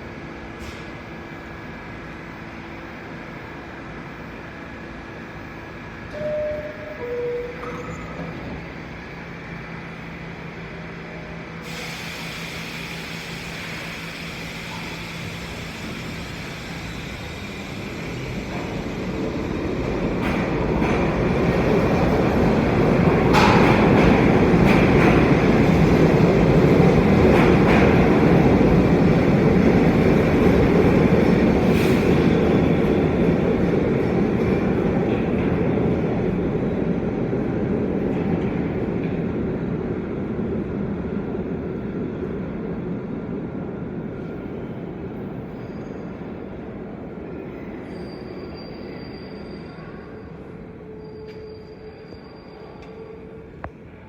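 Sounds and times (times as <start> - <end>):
subway train rumbling rush: 0.0 - 54.0.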